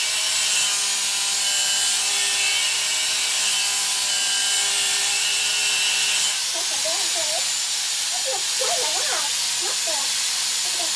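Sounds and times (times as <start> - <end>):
steel being cut hissing: 0.0 - 10.9.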